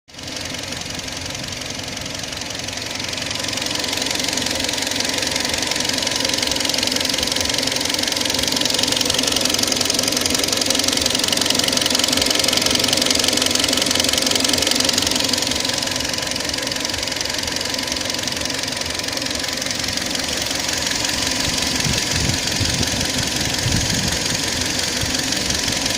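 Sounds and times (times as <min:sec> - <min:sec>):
car engine running with knocking tick: 0:00.1 - 0:25.9.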